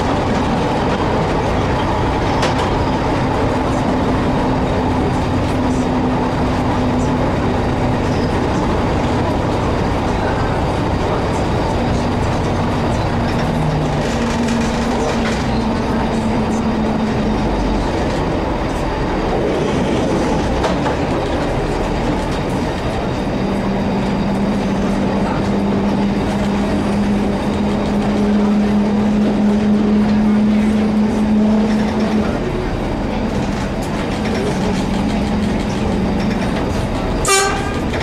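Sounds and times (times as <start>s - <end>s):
diesel train engine: 0.0s - 38.0s
train wheels on rails: 0.0s - 38.0s.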